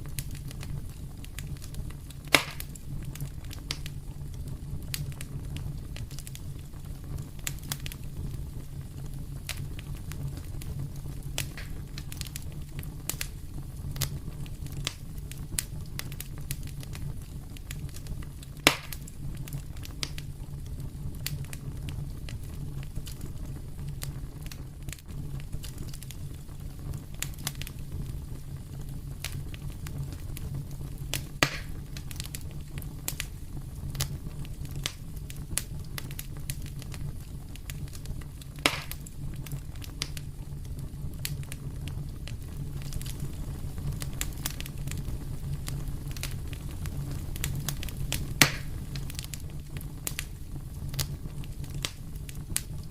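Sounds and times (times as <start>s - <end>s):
loud fire pops: 0.0s - 52.9s
low fire rumble: 0.0s - 52.9s
wood fire crackling: 0.0s - 52.9s.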